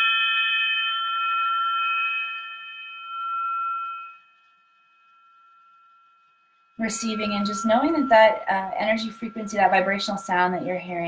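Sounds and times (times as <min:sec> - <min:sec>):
crystal triangle ringing: 0:00.0 - 0:11.0.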